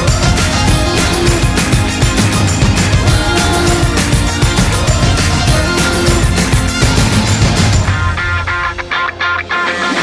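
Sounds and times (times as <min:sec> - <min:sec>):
music with driving beat: 0:00.0 - 0:10.0.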